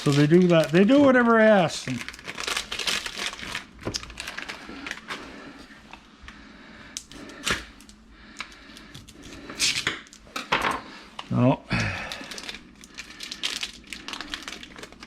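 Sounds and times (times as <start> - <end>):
crackling and crinkling: 0.0 - 10.5, 11.2 - 15.0.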